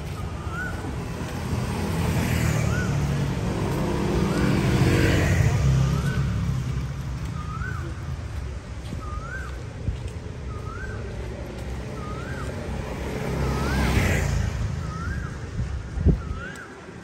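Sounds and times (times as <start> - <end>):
vehicle passing on road: 0.0 - 17.0.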